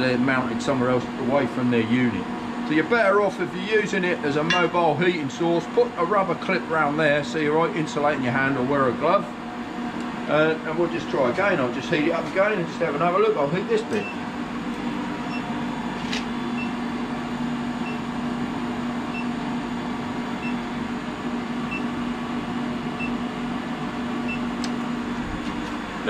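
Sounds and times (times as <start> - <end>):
induction heater low hum: 0.0 - 26.0.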